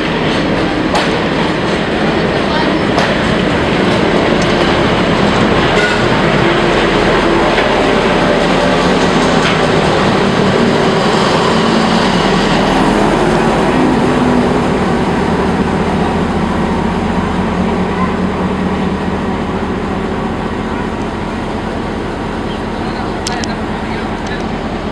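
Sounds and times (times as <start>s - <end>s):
diesel locomotive engine rumbling: 0.0s - 24.9s
people's voices: 0.0s - 24.9s.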